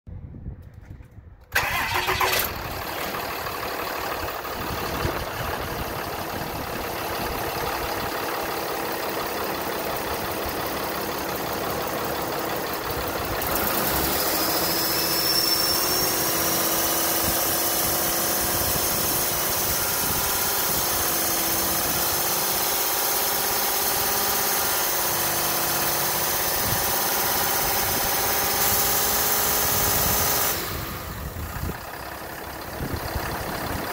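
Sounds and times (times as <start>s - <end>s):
diesel engine starting and idling: 1.4s - 33.9s.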